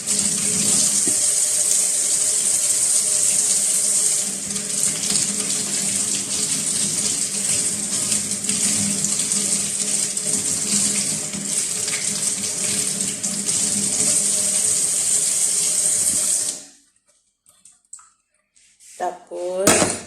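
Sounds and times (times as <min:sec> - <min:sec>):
tap water running into sink: 0:00.0 - 0:16.7.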